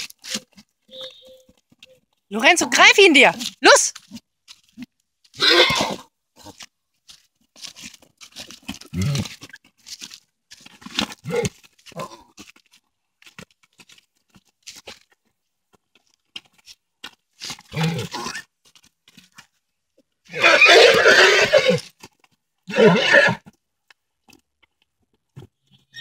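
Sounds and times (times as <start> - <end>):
hooves and feet scuffing dirt: 0.0 - 26.0.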